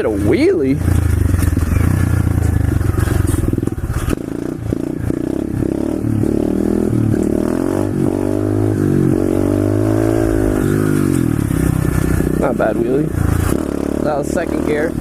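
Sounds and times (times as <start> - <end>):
motorbike engine pulling hard: 0.0 - 15.0.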